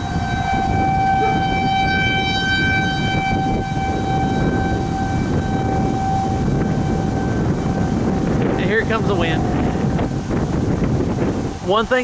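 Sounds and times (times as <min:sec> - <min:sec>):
warning siren steady tone: 0:00.0 - 0:11.2
low rumble: 0:00.2 - 0:11.6.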